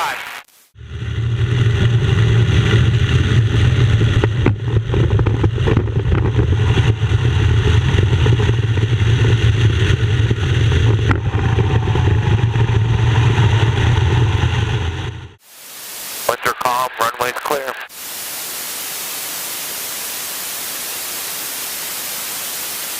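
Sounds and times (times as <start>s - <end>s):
propeller plane engine drone: 0.8s - 22.9s.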